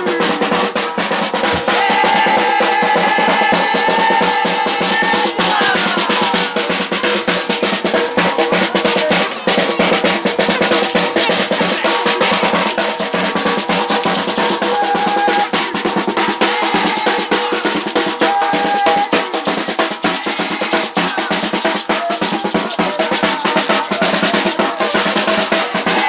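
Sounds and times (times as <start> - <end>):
samba drumming: 0.0 - 26.0.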